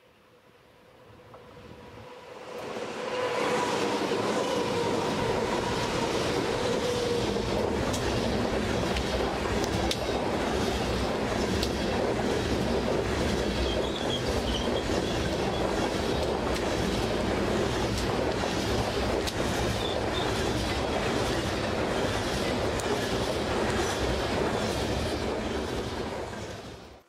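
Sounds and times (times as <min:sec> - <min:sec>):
electric locomotive whine: 0:00.0 - 0:27.0
train wheels rumbling on rails: 0:01.2 - 0:27.0.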